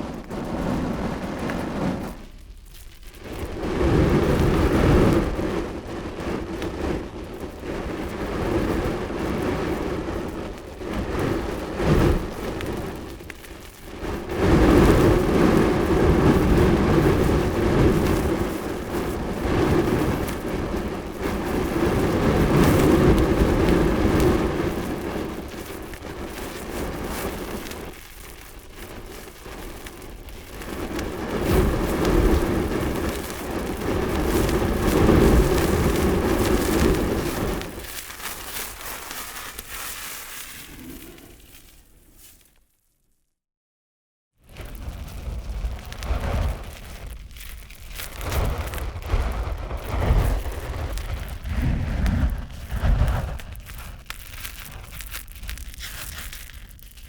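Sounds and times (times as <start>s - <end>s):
fire burning with rushing noise: 0.0s - 42.6s, 44.4s - 57.0s
sharp crack of fire: 0.0s - 42.6s, 44.4s - 57.0s.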